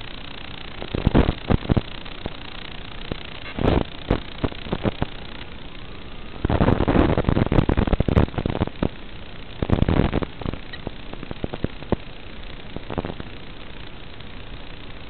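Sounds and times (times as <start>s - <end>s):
radio static hiss and crackle: 0.0s - 15.0s.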